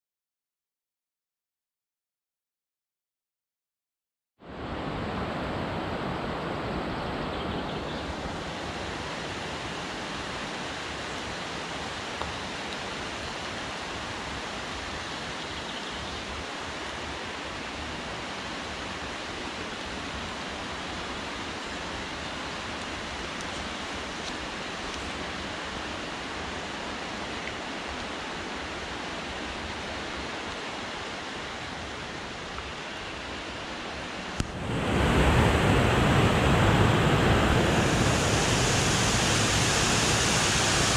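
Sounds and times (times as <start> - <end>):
river and waterfalls rushing: 4.4 - 40.9.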